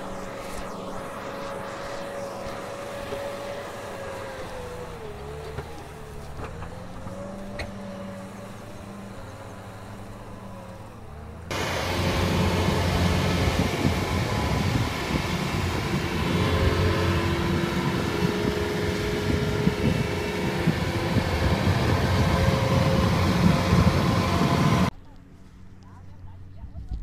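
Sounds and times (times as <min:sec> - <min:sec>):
combine harvester diesel engine: 0:00.0 - 0:25.1
quieter tractor engine: 0:00.0 - 0:26.6.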